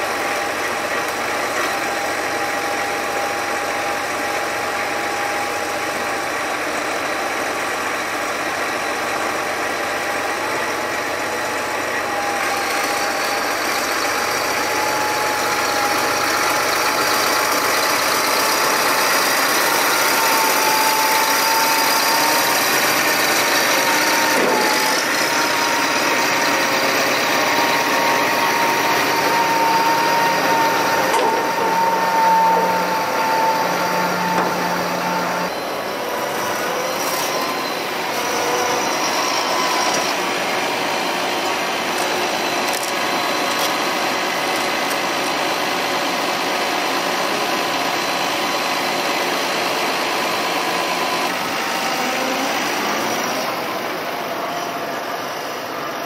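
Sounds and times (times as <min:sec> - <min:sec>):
hydraulic whine: 0:00.0 - 0:56.0
tractor engine running: 0:00.0 - 0:56.0.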